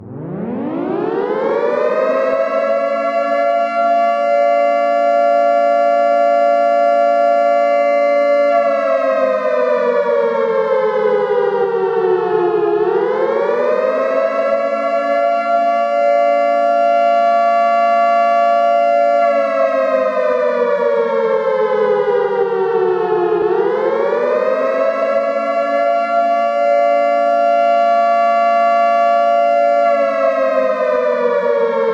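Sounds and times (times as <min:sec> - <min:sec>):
air raid siren wailing: 0:00.0 - 0:31.9.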